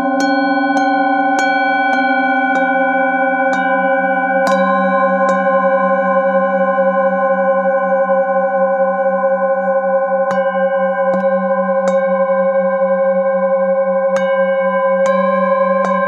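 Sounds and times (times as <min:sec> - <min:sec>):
low wavering ringing hum: 0:00.0 - 0:16.0
singing bowls struck with mallet: 0:00.0 - 0:16.0.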